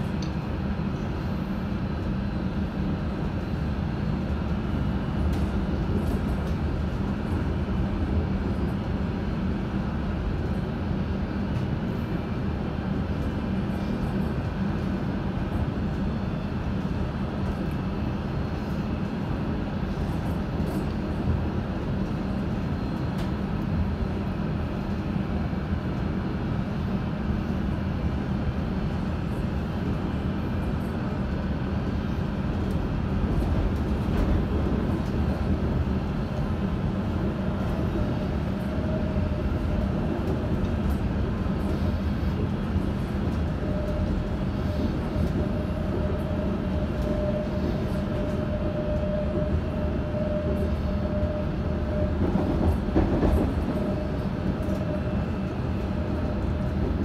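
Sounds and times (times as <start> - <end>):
train rumbling from inside carriage: 0.0 - 57.0.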